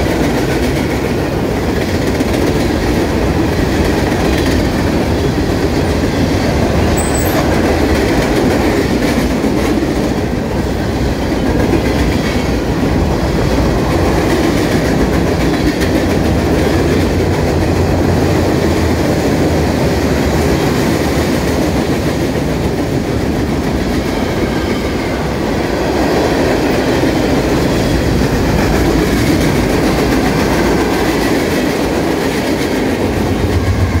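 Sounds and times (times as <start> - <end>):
diesel locomotive engine: 0.0 - 34.0
steel wheels rumbling on rail: 0.0 - 34.0.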